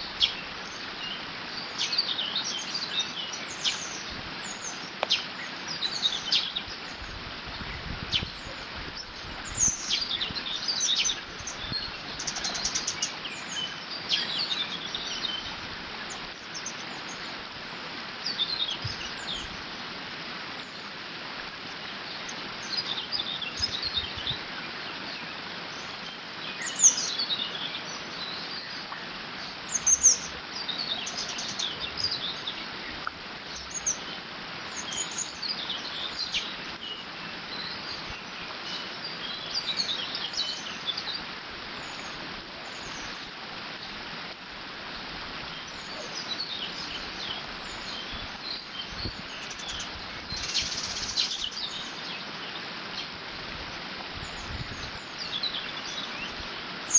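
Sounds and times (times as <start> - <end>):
birds singing and chirping: 0.0 - 17.4, 18.2 - 19.6, 21.8 - 44.0, 45.5 - 56.9.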